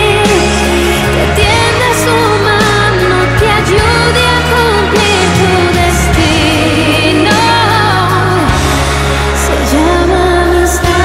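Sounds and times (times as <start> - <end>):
melody over bass notes: 0.0 - 11.0.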